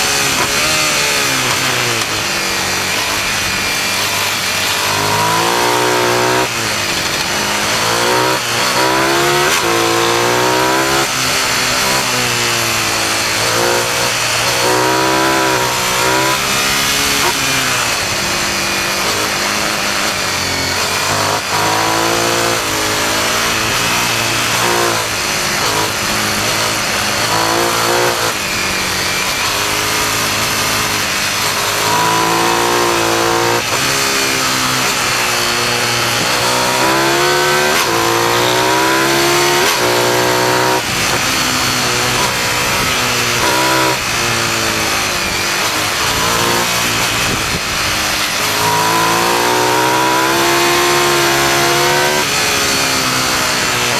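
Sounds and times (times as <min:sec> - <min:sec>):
motorcycle engine revving: 0:00.0 - 0:53.9
wind and road noise: 0:00.0 - 0:53.9.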